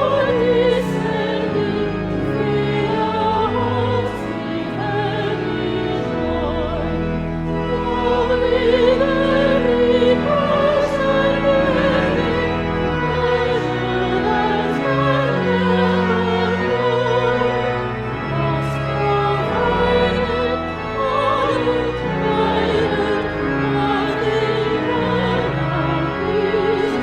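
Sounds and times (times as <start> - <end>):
classical singing with vibrato: 0.0 - 27.0
sustained instrumental accompaniment: 0.0 - 27.0.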